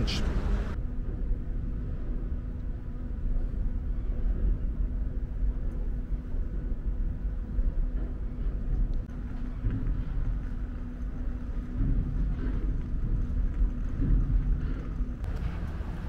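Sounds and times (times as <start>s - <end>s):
faint steady hum: 0.0s - 16.0s
low outdoor rumble: 0.0s - 16.0s.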